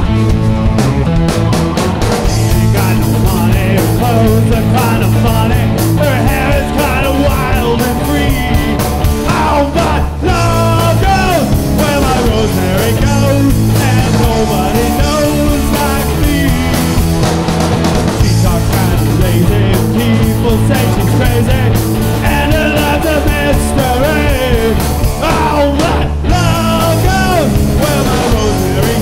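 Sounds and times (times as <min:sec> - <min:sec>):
punk rock band playing: 0:00.0 - 0:29.0
lead vocals singing: 0:02.2 - 0:17.3, 0:18.1 - 0:29.0.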